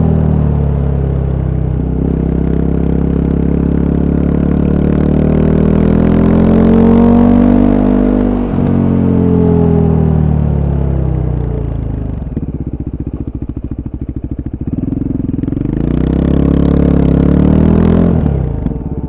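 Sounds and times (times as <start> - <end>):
single-cylinder motorcycle engine: 0.0 - 19.0.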